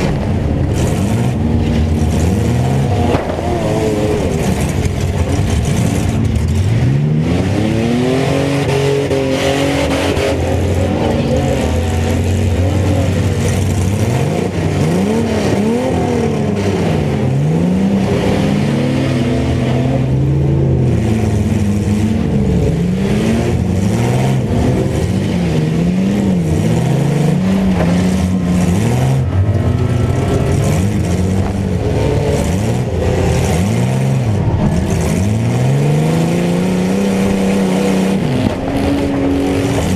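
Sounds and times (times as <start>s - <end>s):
pickup truck engines revving: 0.0s - 39.9s.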